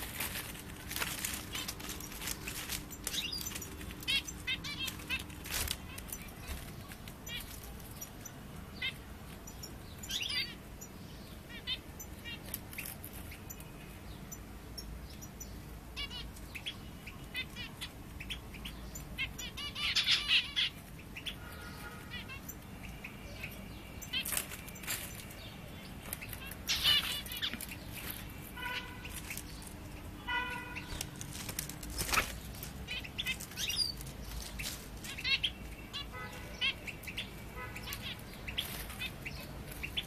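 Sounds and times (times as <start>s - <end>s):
bird chirping and warbling: 0.0s - 40.0s.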